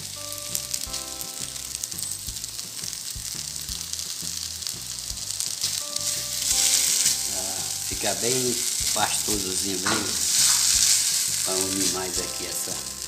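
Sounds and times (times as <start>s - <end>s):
filling sizzling in a frying pan: 0.0s - 13.0s
soft background music: 0.0s - 13.0s.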